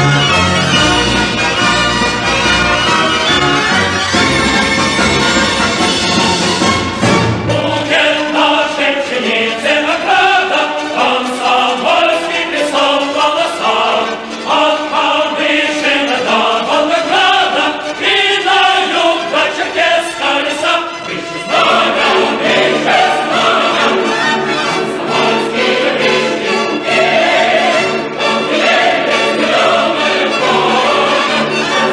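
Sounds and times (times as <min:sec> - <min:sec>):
choir singing: 0:00.0 - 0:31.9.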